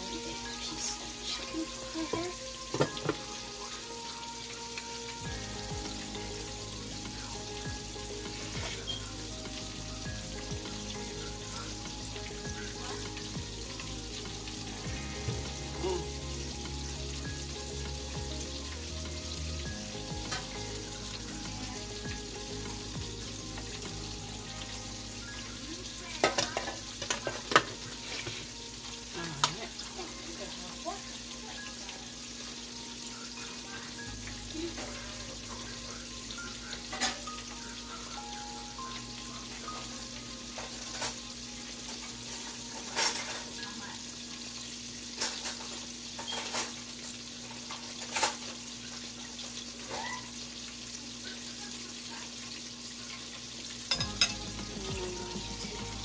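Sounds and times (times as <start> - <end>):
chicken sizzling in oil: 0.0 - 56.0.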